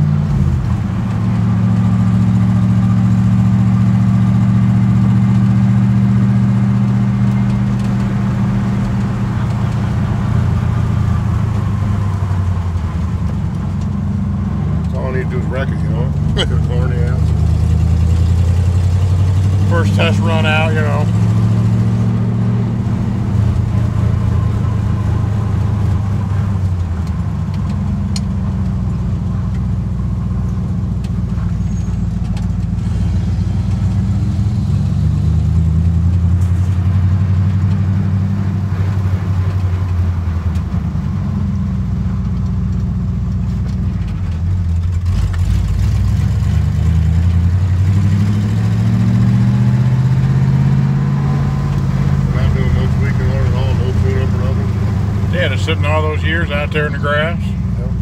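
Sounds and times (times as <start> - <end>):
car engine heard from cabin: 0.0 - 58.0.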